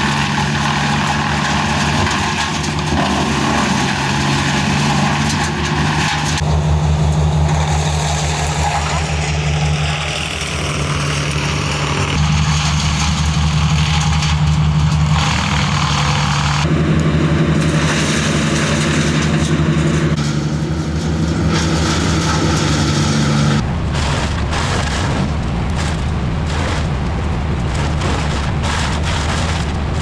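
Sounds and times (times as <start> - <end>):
heavy engine running: 0.0 - 30.0.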